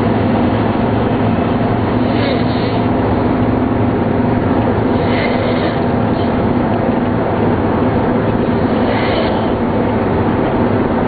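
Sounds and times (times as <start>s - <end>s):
loud low drone: 0.0s - 11.0s.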